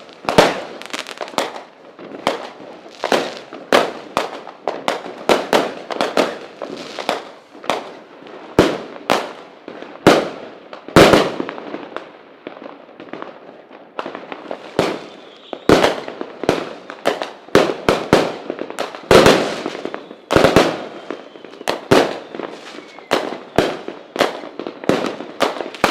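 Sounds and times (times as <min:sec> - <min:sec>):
fireworks bursts and bangs: 0:00.0 - 0:25.9.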